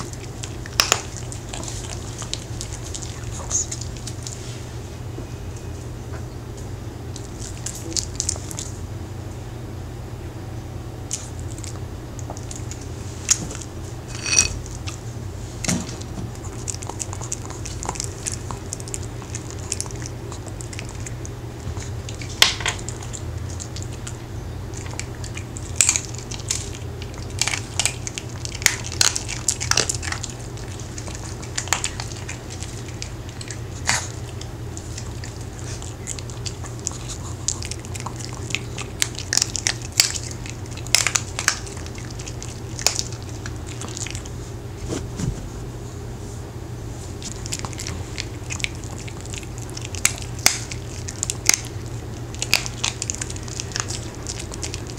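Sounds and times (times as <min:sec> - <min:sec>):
dog crunching cookies: 0:00.0 - 0:04.5, 0:07.1 - 0:08.8, 0:11.0 - 0:44.5, 0:47.1 - 0:54.9
steady low hum: 0:00.0 - 0:54.9.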